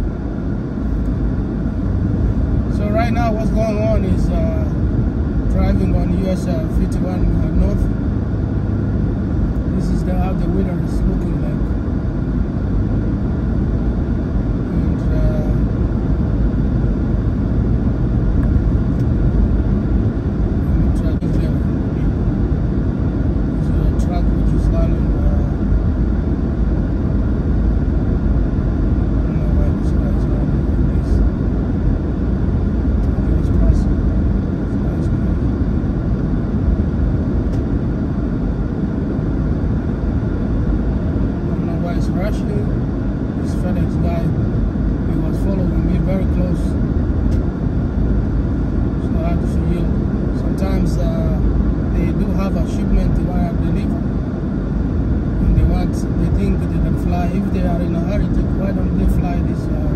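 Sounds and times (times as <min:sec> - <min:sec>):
car cabin rumble: 0:00.0 - 0:59.9.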